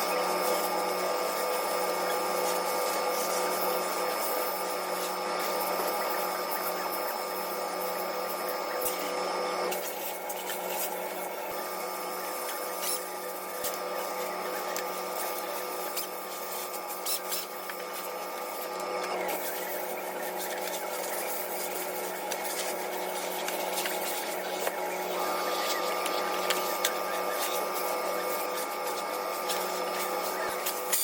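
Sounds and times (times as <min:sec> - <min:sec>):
motor whirring: 0:00.0 - 0:31.0.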